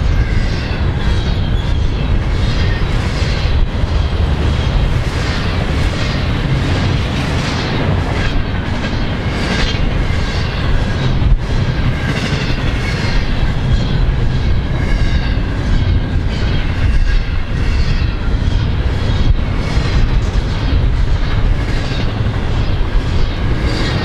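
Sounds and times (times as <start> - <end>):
freight train passing: 0.0 - 24.0.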